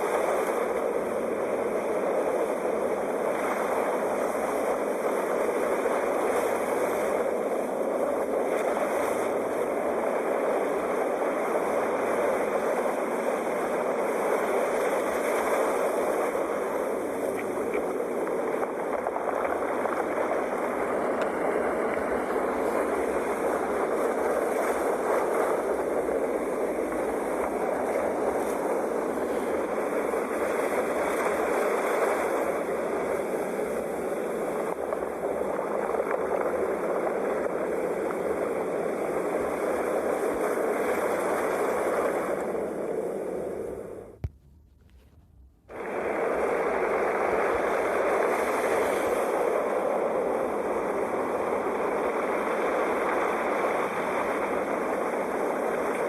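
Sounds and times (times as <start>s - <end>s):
ocean waves on the shore: 0.0s - 44.3s, 45.0s - 56.0s.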